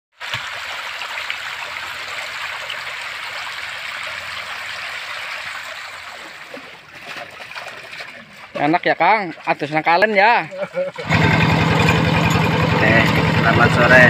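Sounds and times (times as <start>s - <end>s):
water rushing down a channel: 0.2s - 14.0s.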